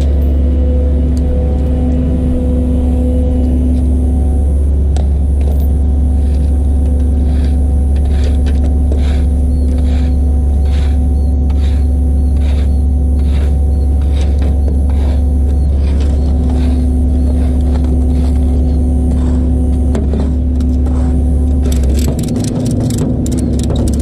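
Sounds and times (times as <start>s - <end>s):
truck engine and road drone: 0.0s - 24.0s.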